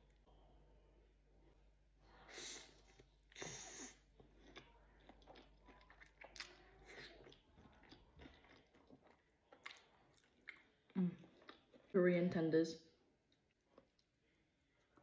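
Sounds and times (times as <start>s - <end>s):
person chewing crunchy food: 1.4s - 11.9s, 13.3s - 15.0s.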